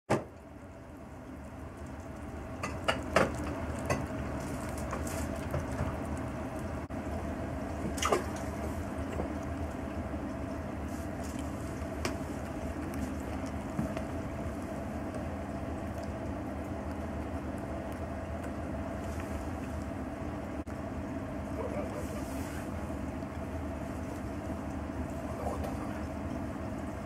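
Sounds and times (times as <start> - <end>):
steady background hum: 0.1 - 27.0
cats chewing and licking: 0.2 - 27.0.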